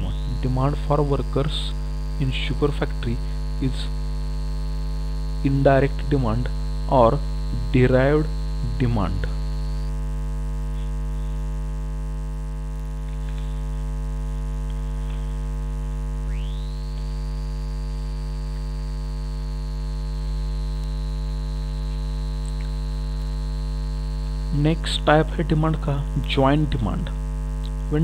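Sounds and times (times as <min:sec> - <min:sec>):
thin high whine gliding up: 0:00.0 - 0:11.6, 0:14.9 - 0:26.0
electrical mains hum: 0:00.0 - 0:28.0.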